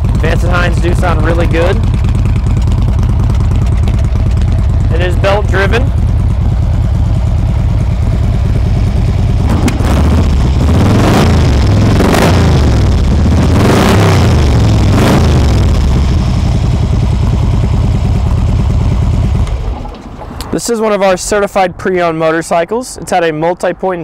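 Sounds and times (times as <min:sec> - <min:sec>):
motorcycle engine idling: 0:00.0 - 0:13.6, 0:14.2 - 0:20.5.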